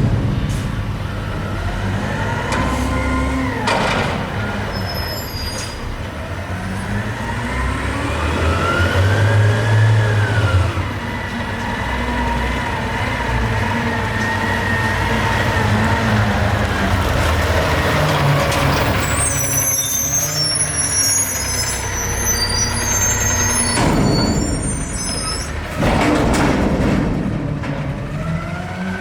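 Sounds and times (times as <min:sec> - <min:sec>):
diesel engine revving: 0:00.0 - 0:29.0.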